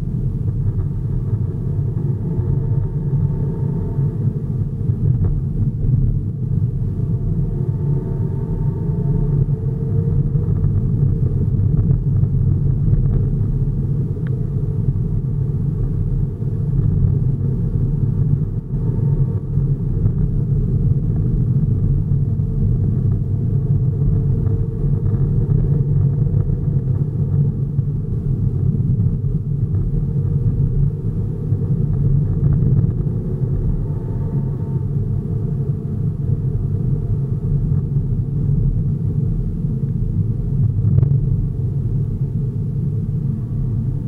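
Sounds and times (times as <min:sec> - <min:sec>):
vehicle engine and road rumble: 0:00.0 - 0:44.0.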